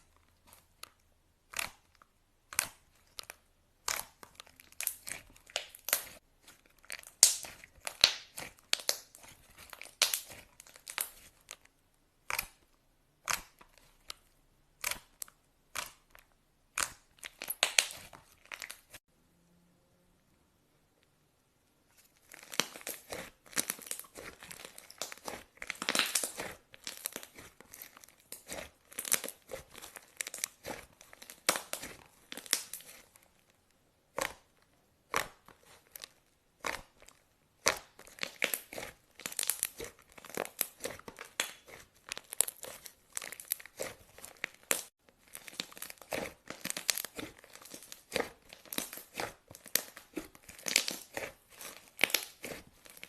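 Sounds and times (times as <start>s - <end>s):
sticky crackles of slime mixing: 0.0s - 19.1s, 21.8s - 53.0s.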